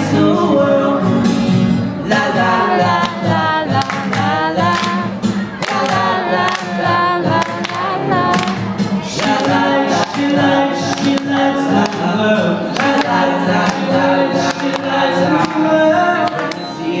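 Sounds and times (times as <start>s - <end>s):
vocal group singing in harmony: 0.0s - 17.0s.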